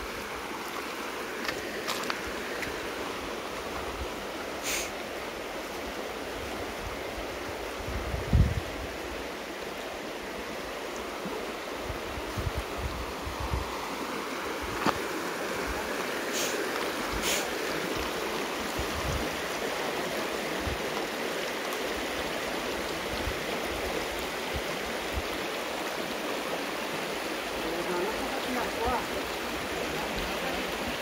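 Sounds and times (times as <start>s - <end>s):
hissing water splashes: 0.0s - 6.4s, 9.3s - 31.0s
stream flowing: 0.0s - 31.0s.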